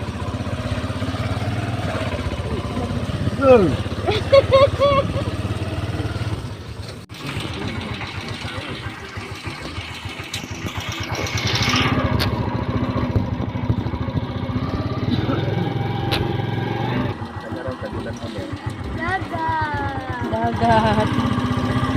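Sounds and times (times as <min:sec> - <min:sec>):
small motorcycle engine running: 0:00.0 - 0:21.9.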